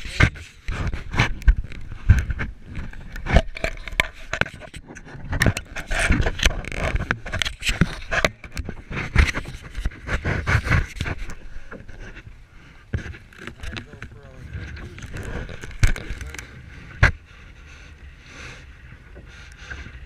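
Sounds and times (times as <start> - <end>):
noisy rustle: 0.0 - 20.0.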